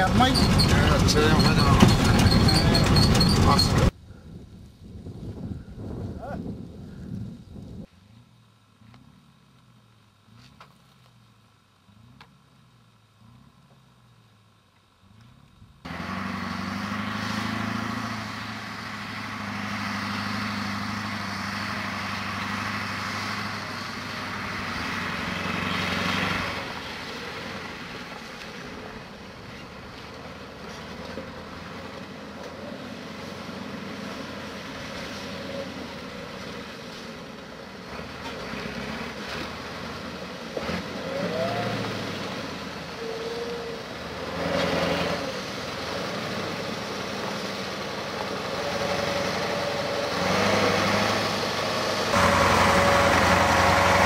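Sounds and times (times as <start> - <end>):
diesel truck engine running: 0.0 - 4.0, 6.7 - 54.0
truck driving on gravel road: 0.0 - 54.0.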